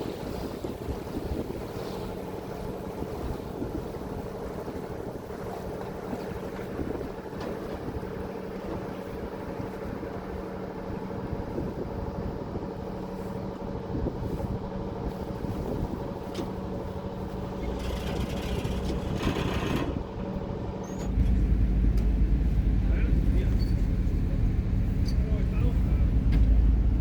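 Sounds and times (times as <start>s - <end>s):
ferry engine drone: 0.0s - 27.0s.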